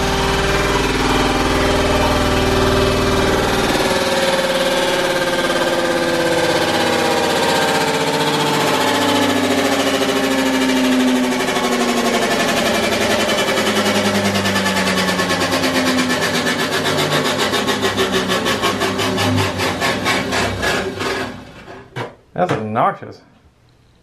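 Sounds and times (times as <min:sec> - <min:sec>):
washing machine drone and rattle: 0:00.0 - 0:22.1.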